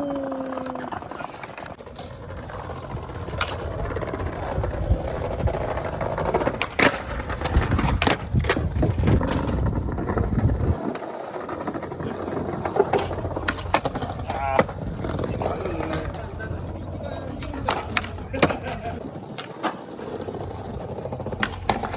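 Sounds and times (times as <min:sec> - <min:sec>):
skateboard clacking on ground: 0:00.0 - 0:21.9
skateboard wheels rolling on pavement: 0:00.0 - 0:21.9.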